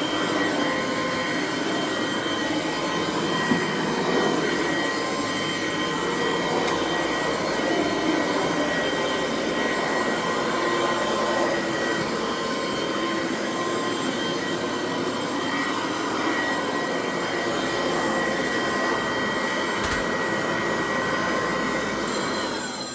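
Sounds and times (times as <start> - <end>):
vacuum cleaner motor whine: 0.0 - 22.9.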